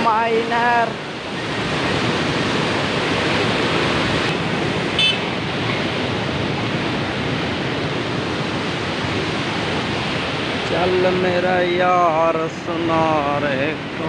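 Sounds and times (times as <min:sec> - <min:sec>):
water rushing through gates: 0:00.0 - 0:14.0.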